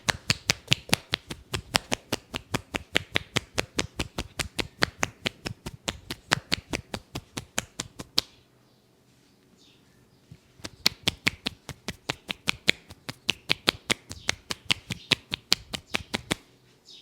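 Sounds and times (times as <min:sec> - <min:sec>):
hands slapping body rhythmically: 0:00.0 - 0:08.4, 0:10.6 - 0:16.4.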